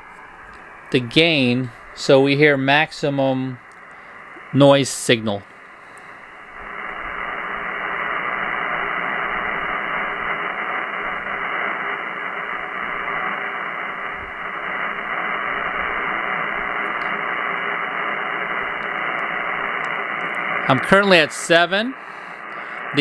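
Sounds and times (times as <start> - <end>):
raspy radio noise from speaker: 0.0 - 23.0.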